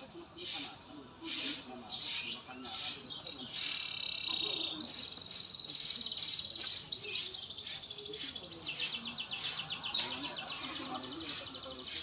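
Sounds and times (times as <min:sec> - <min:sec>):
songbird singing rapid trills: 0:00.0 - 0:12.0.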